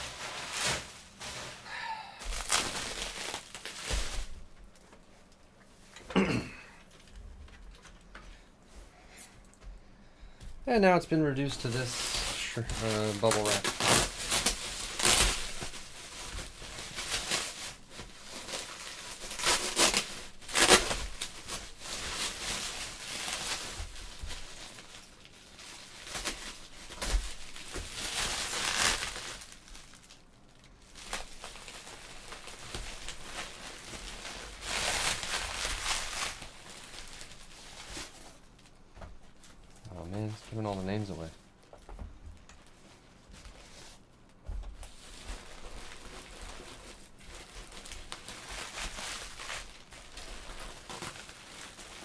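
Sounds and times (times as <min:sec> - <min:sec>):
bubble wrap tearing: 0:00.0 - 0:05.0, 0:10.8 - 0:41.8, 0:42.4 - 0:52.0
bubble wrap crinkling: 0:00.0 - 0:09.7, 0:10.7 - 0:52.0.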